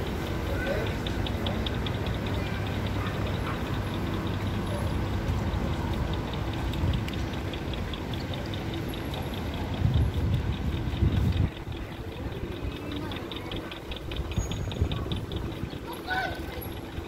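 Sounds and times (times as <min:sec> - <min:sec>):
rapid even ticking: 0:00.0 - 0:17.0
traffic hum: 0:00.0 - 0:17.0.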